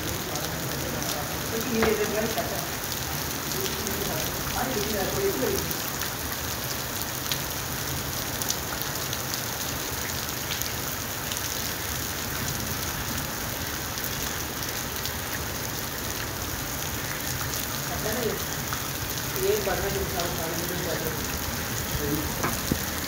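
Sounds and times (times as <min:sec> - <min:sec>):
rain hissing on pavement: 0:00.0 - 0:23.0
sharp ticks of raindrops: 0:00.0 - 0:23.0.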